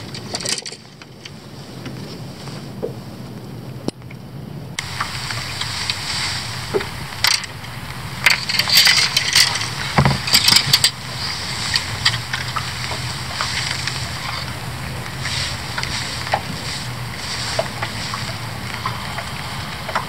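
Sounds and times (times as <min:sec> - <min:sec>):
rustling and scraping in a boat: 0:00.0 - 0:20.0
steady hiss: 0:00.0 - 0:20.0.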